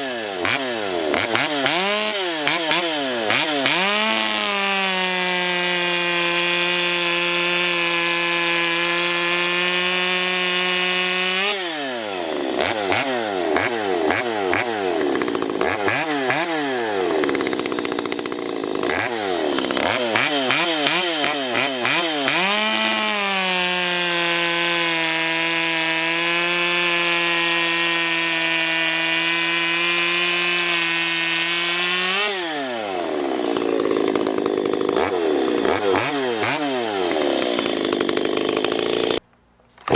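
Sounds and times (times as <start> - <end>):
chainsaw revving: 0.0 - 39.2.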